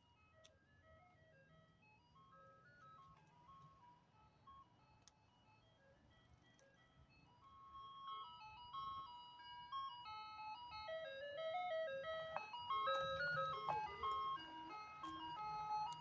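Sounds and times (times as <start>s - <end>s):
ice cream truck chime melody: 0.0s - 16.0s.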